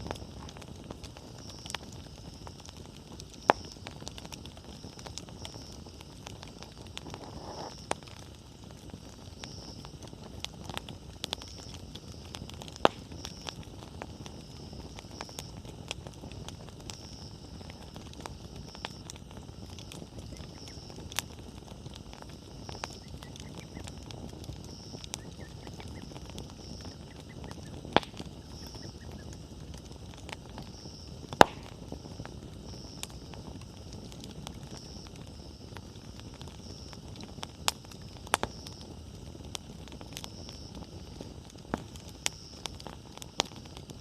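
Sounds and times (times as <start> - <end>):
campfire burning and crackling: 0.0 - 44.0
sharp fire pops: 0.0 - 44.0.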